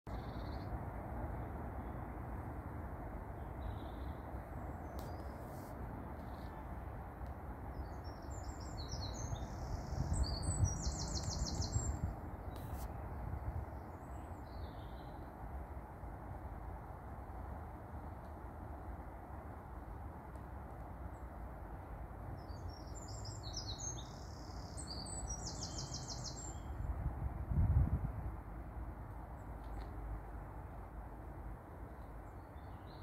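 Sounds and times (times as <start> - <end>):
low outdoor background noise: 0.1 - 33.0.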